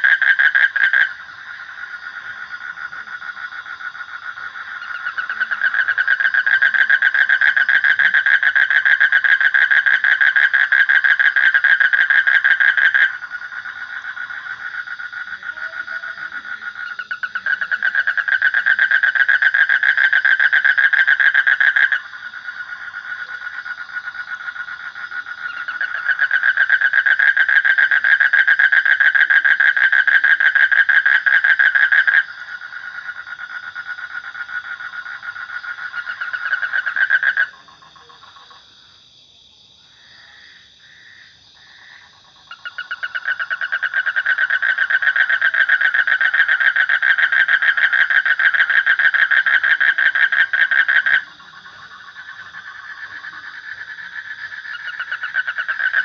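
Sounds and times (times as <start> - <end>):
toads trilling: 0.0 - 38.6, 40.0 - 56.0.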